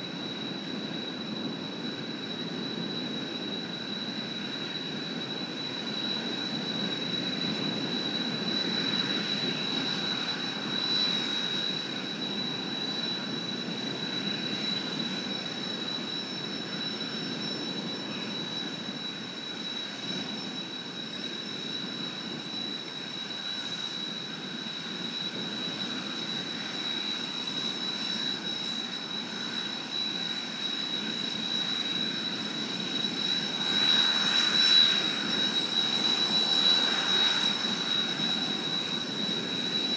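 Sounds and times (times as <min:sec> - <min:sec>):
thin high jet whine: 0:00.0 - 0:39.9.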